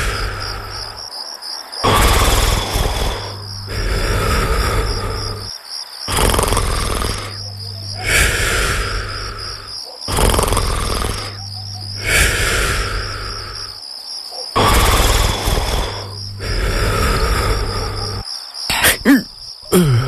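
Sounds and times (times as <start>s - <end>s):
loud rasping snoring: 0.0s - 1.1s, 1.8s - 13.8s, 14.5s - 19.1s
crickets chirping: 0.0s - 20.0s.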